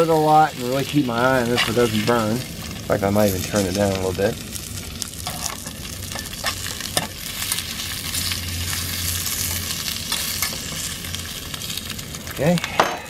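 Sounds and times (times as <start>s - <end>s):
meat sizzling in oil: 0.0s - 12.8s.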